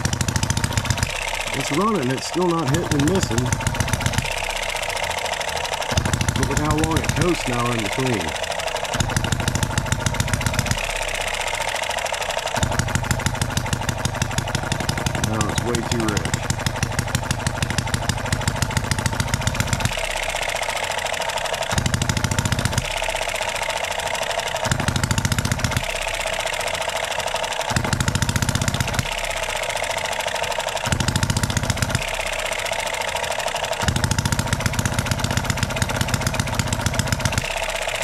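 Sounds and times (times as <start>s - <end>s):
model engine firing rapidly: 0.0s - 38.0s
valve gear ticking: 0.0s - 38.0s.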